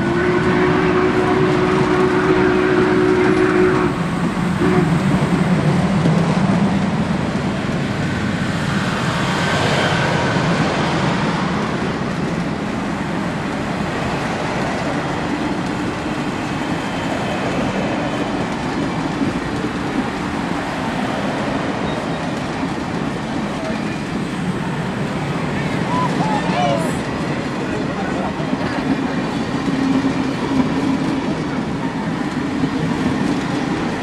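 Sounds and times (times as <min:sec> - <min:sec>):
train cars rolling on rails: 0:00.0 - 0:34.0.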